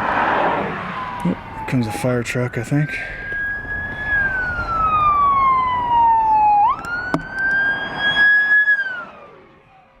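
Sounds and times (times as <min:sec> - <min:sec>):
fire truck siren wailing: 0:00.0 - 0:10.0.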